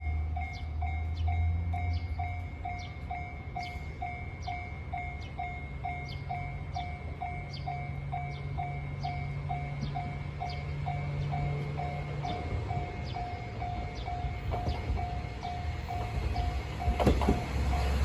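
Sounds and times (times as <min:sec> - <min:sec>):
level-crossing alarm bell: 0:00.0 - 0:18.0.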